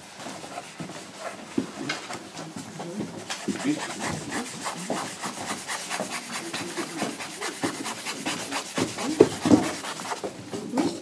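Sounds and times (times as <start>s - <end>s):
microphone rubbing on clothing: 0.1s - 11.0s.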